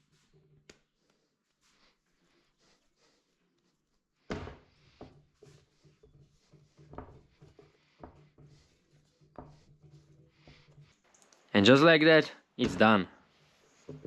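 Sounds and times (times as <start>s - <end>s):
dough kneaded by hand: 0.0s - 11.4s.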